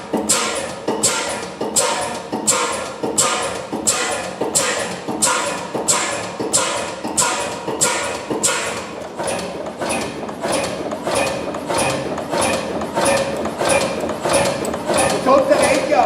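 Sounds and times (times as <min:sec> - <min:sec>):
diesel engine clacking: 0:00.0 - 0:16.0.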